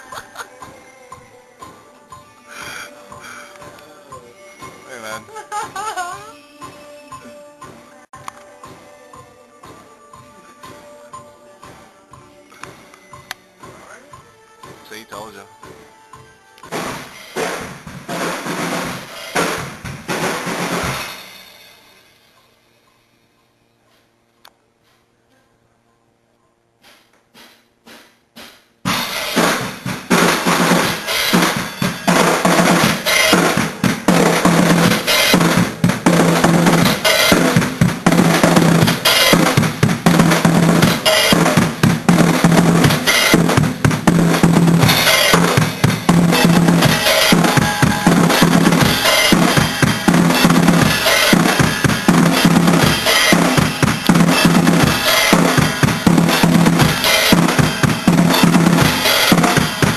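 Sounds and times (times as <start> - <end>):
drum kit playing a beat: 0.0 - 21.5, 26.8 - 59.9.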